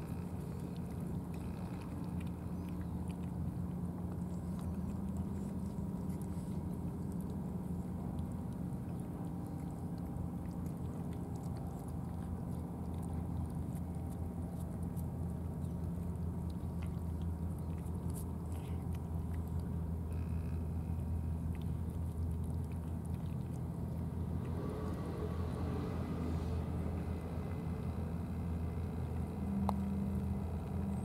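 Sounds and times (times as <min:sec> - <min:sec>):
cats chewing wet food: 0:00.0 - 0:31.0
engine idling hum: 0:00.0 - 0:31.0.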